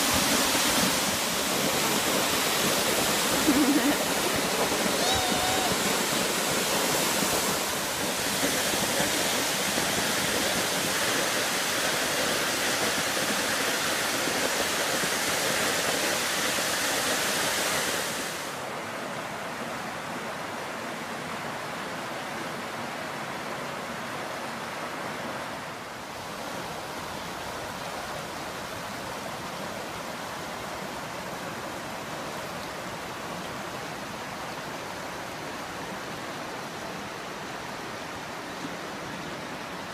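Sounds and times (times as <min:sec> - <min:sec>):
creek running over rapids: 0:00.0 - 0:39.9
waterfall roaring: 0:00.0 - 0:39.9.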